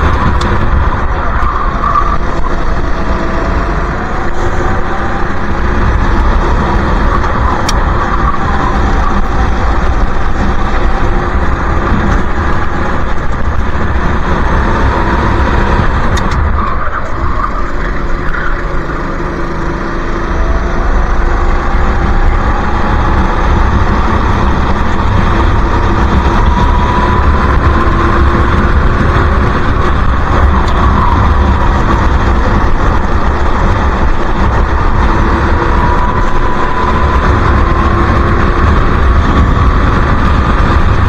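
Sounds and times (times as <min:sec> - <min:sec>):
wind buffeting microphone: 0:00.0 - 0:18.2, 0:20.4 - 0:41.0
go-kart engine racing: 0:00.0 - 0:41.0.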